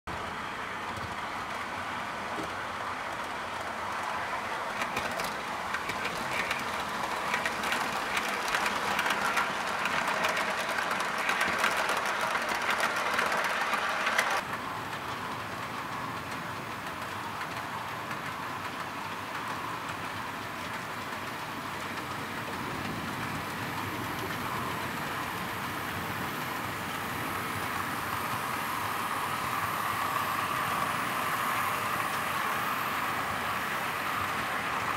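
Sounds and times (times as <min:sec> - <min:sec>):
model train running: 0:00.1 - 0:34.9
wheels clicking over rail joints: 0:00.1 - 0:34.9.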